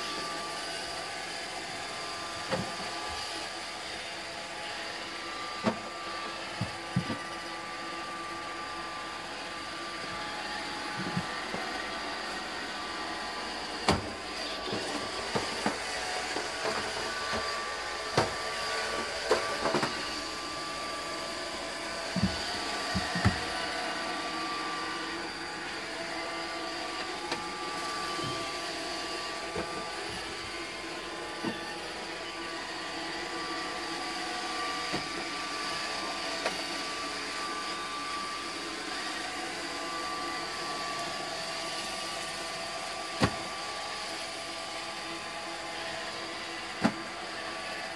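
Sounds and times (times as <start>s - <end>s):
robot vacuum whirring: 0.0s - 47.9s.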